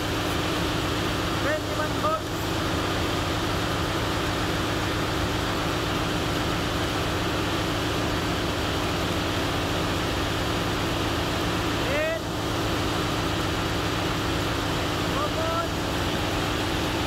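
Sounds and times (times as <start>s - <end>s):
engine-room machinery drone: 0.0s - 17.0s.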